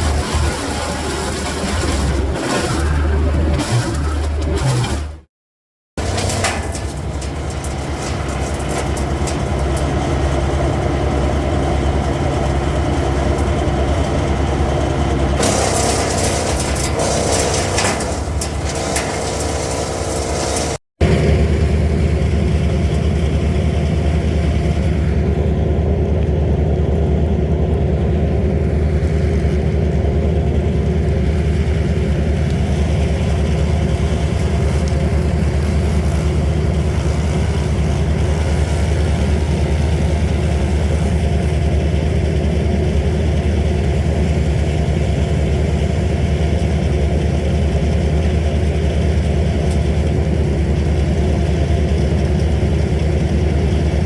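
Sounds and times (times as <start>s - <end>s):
machine engine droning: 6.0s - 54.0s.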